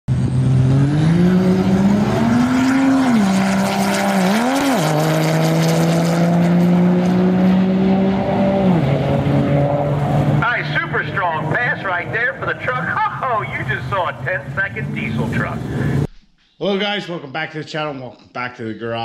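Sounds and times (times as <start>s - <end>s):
diesel pickup engine accelerating: 0.1s - 16.1s.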